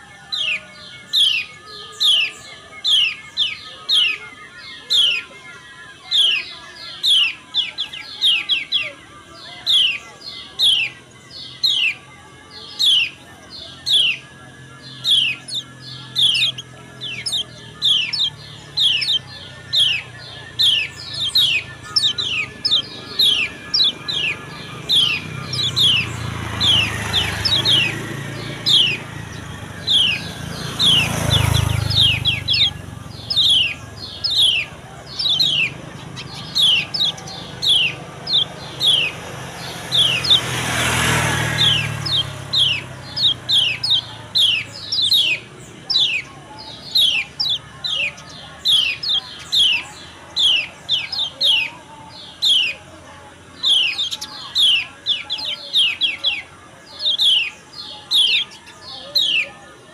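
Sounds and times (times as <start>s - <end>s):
bird call notes: 0.0s - 59.9s.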